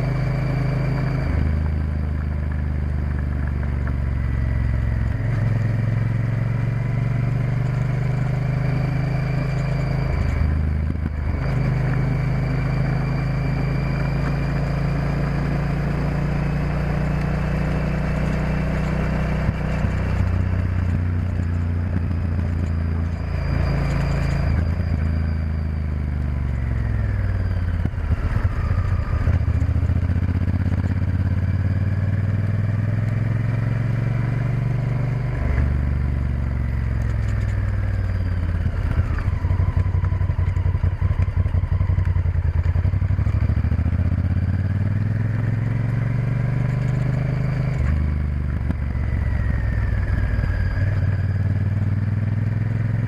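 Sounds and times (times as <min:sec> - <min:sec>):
motorcycle engine revving: 0:00.0 - 0:53.0
wind and road noise: 0:00.0 - 0:53.0.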